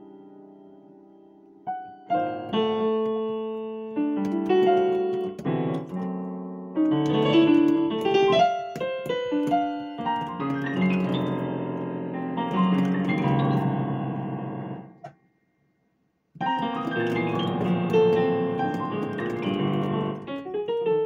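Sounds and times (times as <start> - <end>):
digital piano chords and melody: 0.0 - 15.1, 16.4 - 21.0.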